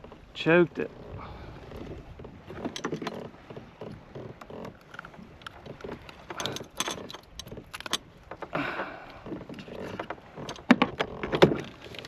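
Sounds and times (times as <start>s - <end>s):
clicks and rattles handling kayak: 0.0s - 12.0s.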